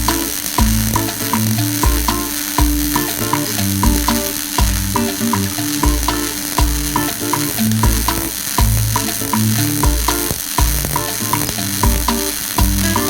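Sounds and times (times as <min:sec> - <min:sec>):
background music with bass and beat: 0:00.0 - 0:13.0
welding arc crackling: 0:00.0 - 0:13.0.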